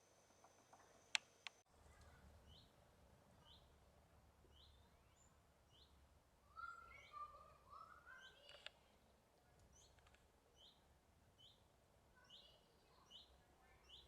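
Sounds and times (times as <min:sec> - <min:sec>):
bird chirping: 0:00.0 - 0:02.8, 0:03.4 - 0:03.8, 0:04.4 - 0:14.0
birdsong: 0:00.0 - 0:02.8, 0:03.4 - 0:03.8, 0:04.4 - 0:14.0.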